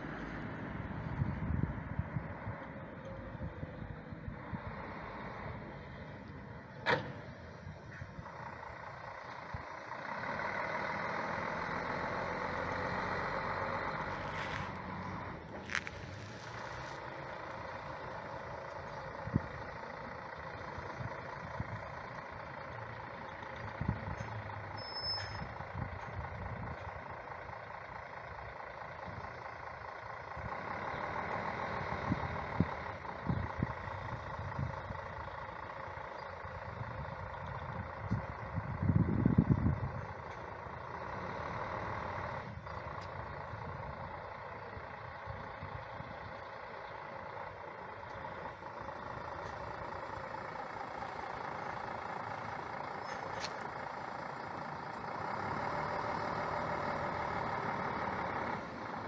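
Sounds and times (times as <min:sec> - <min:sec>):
coach diesel engine running: 0:00.0 - 0:59.0
low engine rumble: 0:00.0 - 0:59.0.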